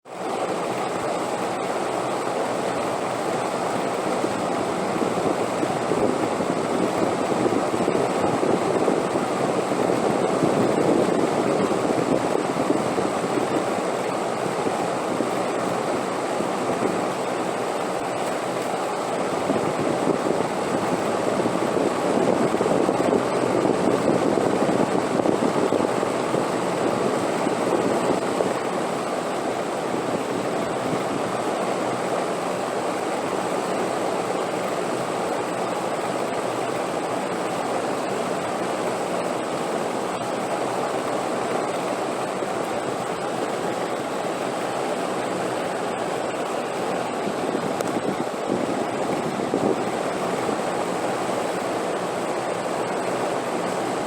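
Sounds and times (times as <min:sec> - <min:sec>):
rushing wind gusts: 0:03.8 - 0:17.9, 0:18.8 - 0:34.0, 0:35.3 - 0:54.0.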